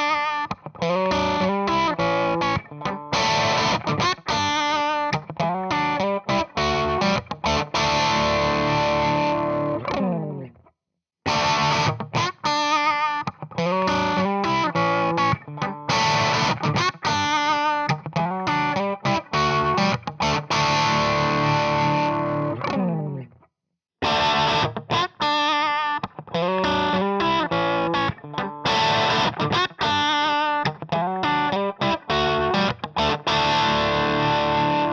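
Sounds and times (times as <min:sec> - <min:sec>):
distorted electric guitar: 0:00.0 - 0:10.6, 0:11.3 - 0:23.3, 0:24.0 - 0:34.9.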